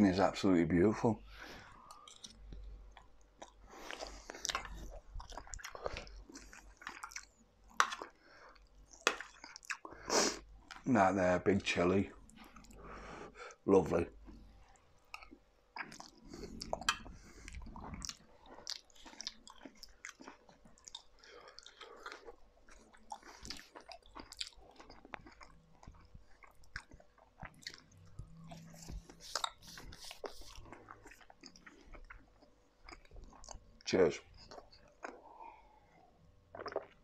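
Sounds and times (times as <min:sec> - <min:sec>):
man chewing: 0:01.6 - 0:10.8, 0:12.2 - 0:13.6, 0:14.2 - 0:33.8, 0:34.4 - 0:37.0.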